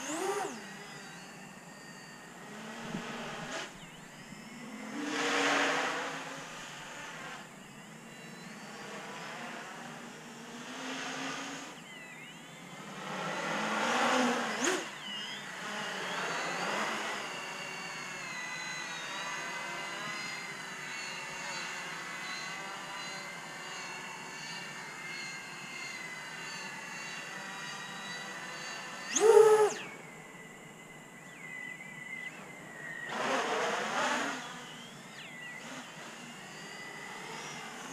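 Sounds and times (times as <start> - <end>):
quadcopter motors whining: 0.0 - 37.9.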